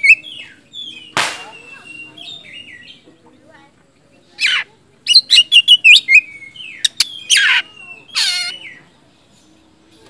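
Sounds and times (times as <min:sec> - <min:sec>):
bird singing harsh and whistled notes: 0:00.0 - 0:03.1, 0:04.3 - 0:09.8.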